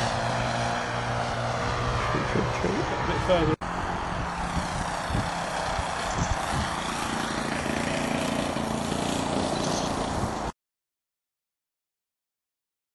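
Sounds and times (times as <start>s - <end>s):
model plane motor and propeller droning: 0.0s - 10.5s.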